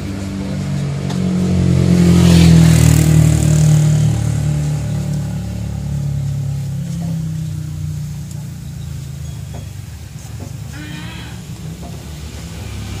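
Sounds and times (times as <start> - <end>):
vehicle driving past: 0.0 - 13.0.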